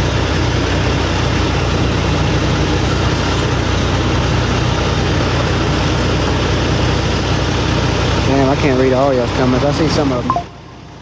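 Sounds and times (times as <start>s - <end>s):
heavy truck engine humming: 0.0s - 11.0s.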